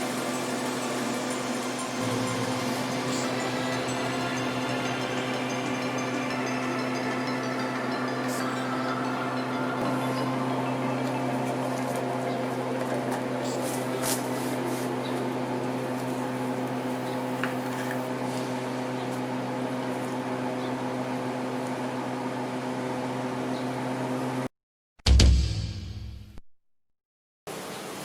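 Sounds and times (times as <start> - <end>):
steady mechanical hum: 0.0 - 24.5.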